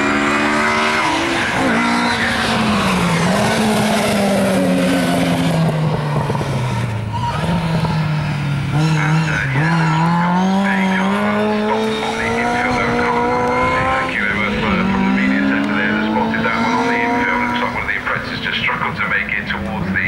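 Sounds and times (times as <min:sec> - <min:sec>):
rally car engine: 0:00.0 - 0:20.0.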